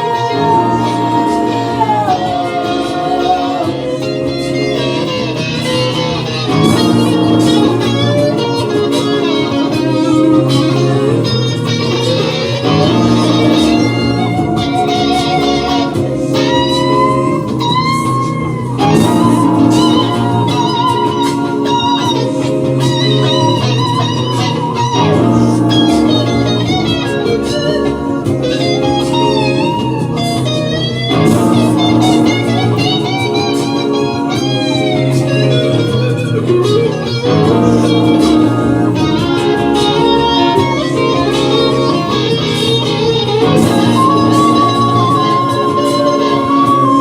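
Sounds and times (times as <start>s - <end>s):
guitar-led instrumental music: 0.0s - 47.0s.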